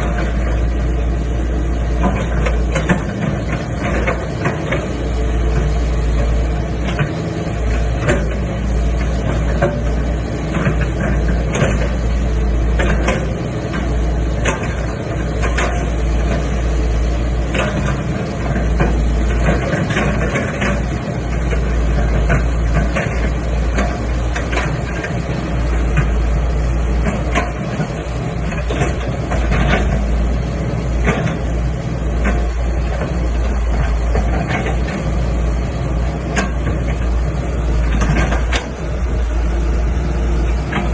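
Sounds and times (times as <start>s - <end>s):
diesel engine rumbling: 0.0s - 40.9s
machine knocks and clanks: 1.9s - 16.8s, 17.4s - 39.3s.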